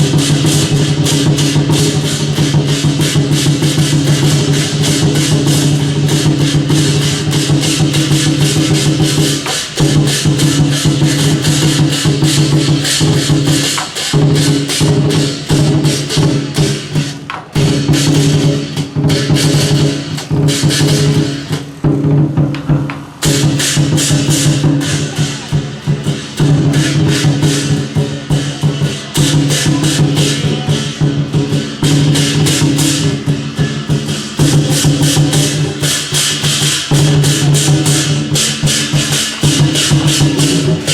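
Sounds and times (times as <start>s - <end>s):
drums and cymbals struck fast: 0.0s - 40.9s.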